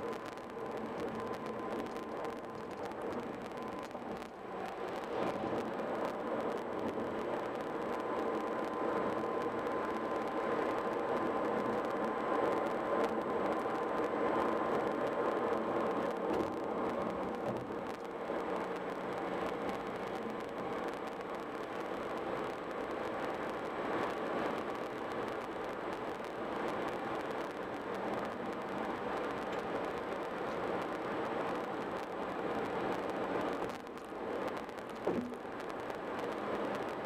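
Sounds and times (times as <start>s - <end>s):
car road and tyre noise: 0.0s - 37.0s
faint steady whine: 0.0s - 37.0s.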